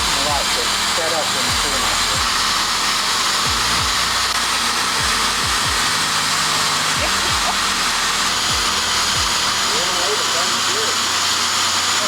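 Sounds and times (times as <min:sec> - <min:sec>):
blower rushing air: 0:00.0 - 0:12.0.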